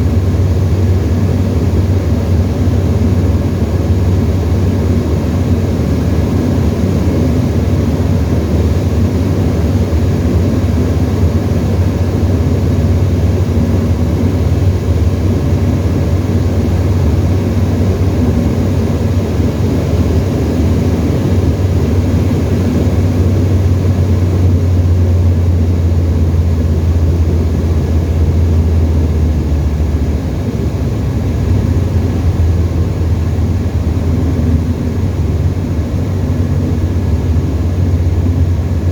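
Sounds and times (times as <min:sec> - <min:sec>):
light aeroplane engine droning: 0:00.0 - 0:38.9.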